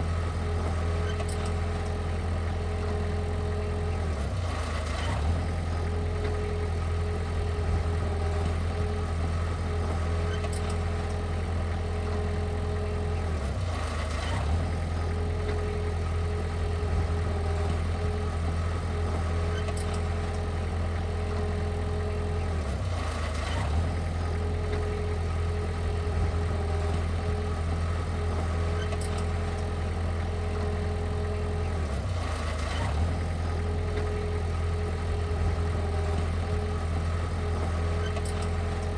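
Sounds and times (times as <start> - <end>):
diesel engine deep hum: 0.0 - 38.9.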